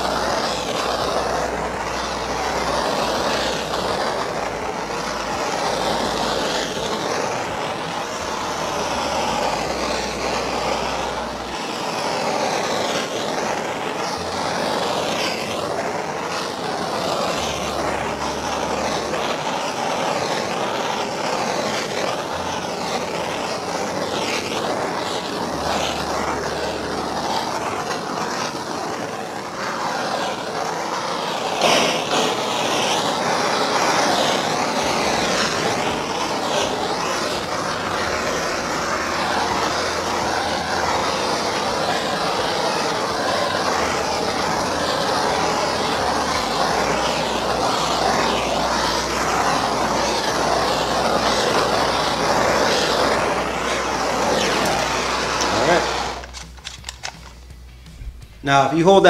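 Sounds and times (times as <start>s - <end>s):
gas torch hissing: 0.0s - 59.0s.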